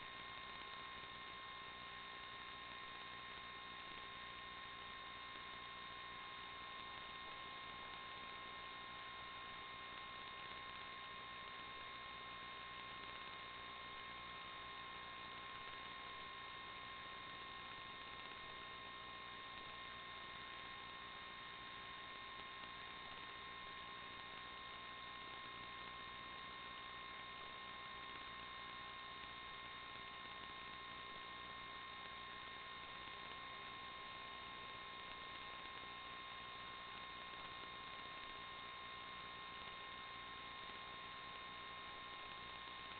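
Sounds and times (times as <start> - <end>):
constant high whine: 0.0 - 42.9
electronic hiss: 0.0 - 42.9.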